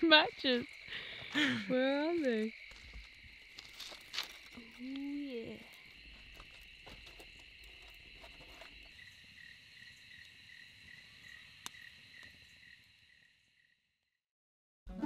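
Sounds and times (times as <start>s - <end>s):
insect trill: 0.0s - 14.0s
insect chirp: 0.0s - 14.2s.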